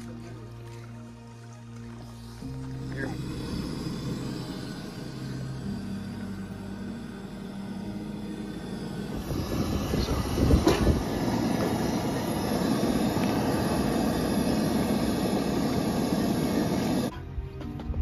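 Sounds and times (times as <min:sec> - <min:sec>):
water boiling on gas burner: 0:02.2 - 0:17.1.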